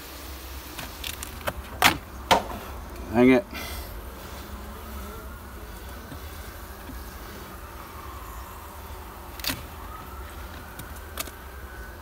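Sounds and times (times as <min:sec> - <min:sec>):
bee colony buzzing: 0:00.0 - 0:12.0
bees flying past whining: 0:02.0 - 0:12.0.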